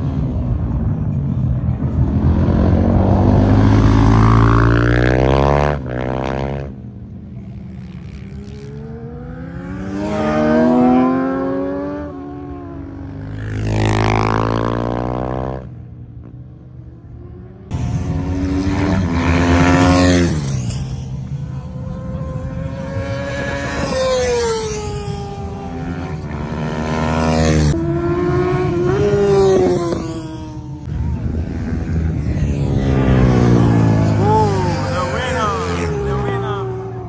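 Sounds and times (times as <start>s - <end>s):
motorbikes passing at speed: 0.0s - 37.0s.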